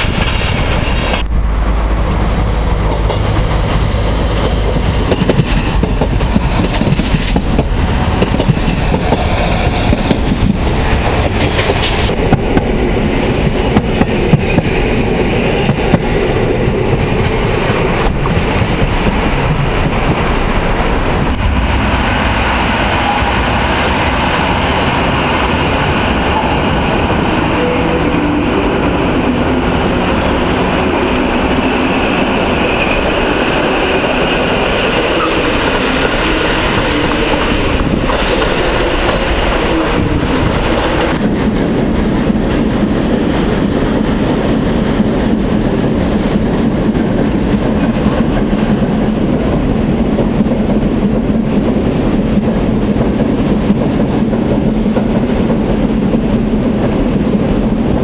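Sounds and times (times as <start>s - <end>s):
electric train rolling past: 0.0s - 58.0s
steady train tones: 0.0s - 58.0s
freight train wheels clacking: 2.1s - 58.0s.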